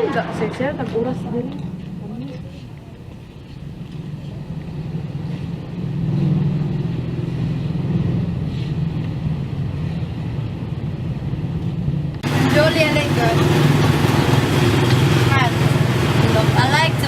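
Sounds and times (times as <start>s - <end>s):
vehicle engine running: 0.6s - 17.0s.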